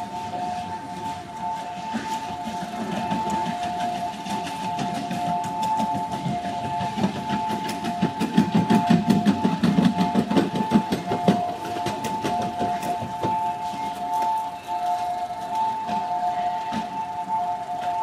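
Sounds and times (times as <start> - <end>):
generator engine rumbling: 0.0 - 18.0.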